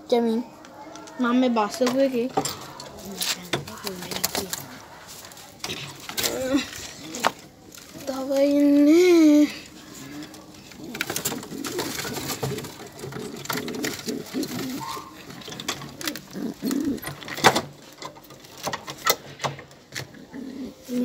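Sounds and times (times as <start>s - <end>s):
pigeons cooing: 2.4s - 21.0s.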